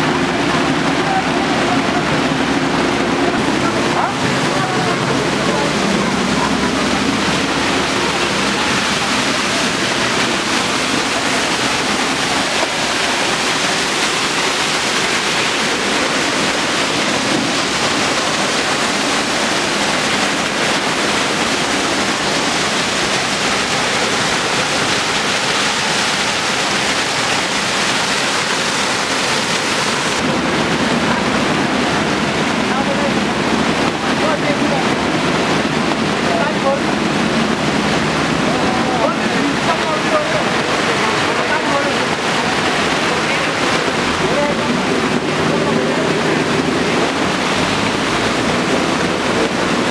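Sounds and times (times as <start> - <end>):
floodwater rushing: 0.0 - 49.9.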